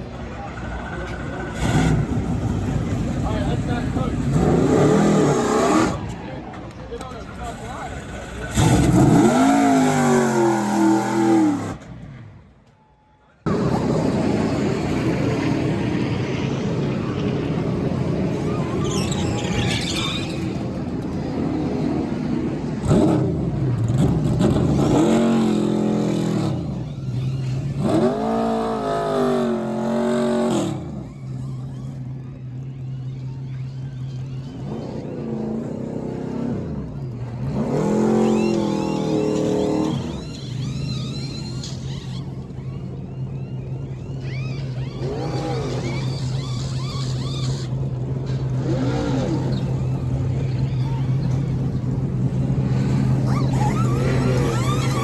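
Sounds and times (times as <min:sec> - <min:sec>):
race trucks passing at speed: 0:00.0 - 0:12.5, 0:13.4 - 0:55.0.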